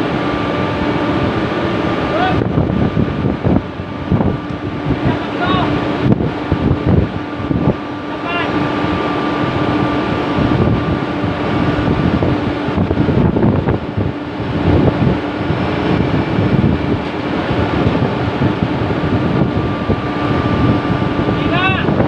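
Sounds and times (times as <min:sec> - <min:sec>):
machinery hum: 0:00.0 - 0:22.0
wind buffeting microphone: 0:00.0 - 0:22.0.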